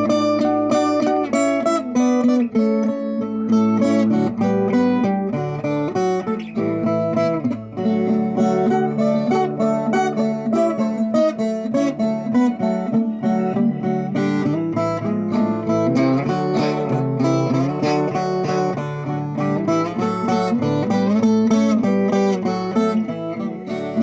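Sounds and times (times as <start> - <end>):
plucked folk guitar melody: 0.0 - 24.0.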